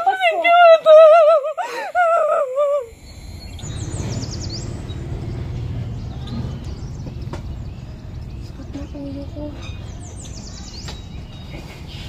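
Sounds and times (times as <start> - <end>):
steady low rumble: 2.0 - 11.9
bird chirping: 2.2 - 12.0.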